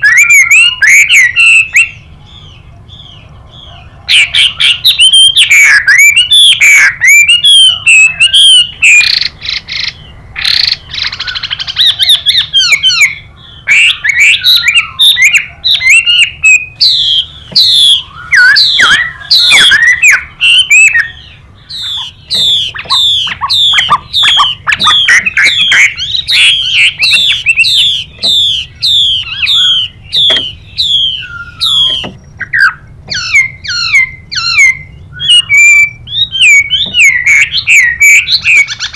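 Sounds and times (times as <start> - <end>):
bird harsh raspy call: 0.0 - 38.9
bird singing whistled phrases: 0.0 - 38.9.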